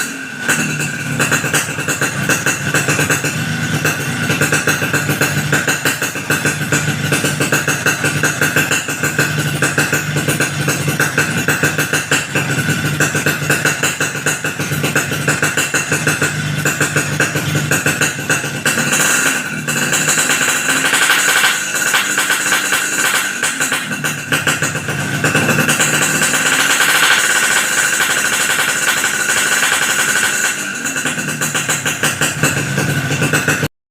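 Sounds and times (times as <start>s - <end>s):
motorcycle engine running: 0.0s - 33.7s.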